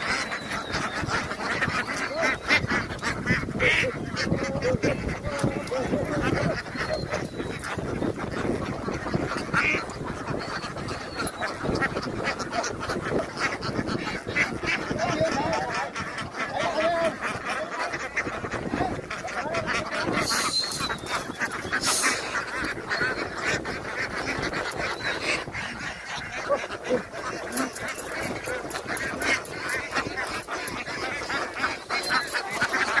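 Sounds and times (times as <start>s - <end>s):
ducks quacking and honking: 0.0s - 33.0s.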